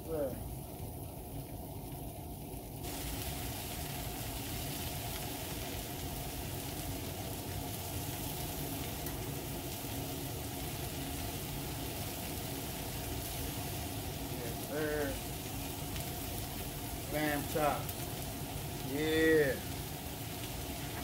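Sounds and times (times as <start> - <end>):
vegetables sizzling on a griddle: 0.0 - 21.0.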